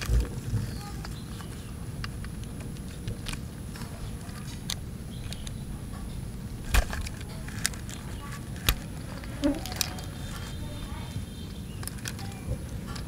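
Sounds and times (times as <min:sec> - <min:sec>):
plastic toy parts clicking: 0:00.0 - 0:10.6, 0:11.3 - 0:13.0
steady low rumble: 0:00.0 - 0:13.0.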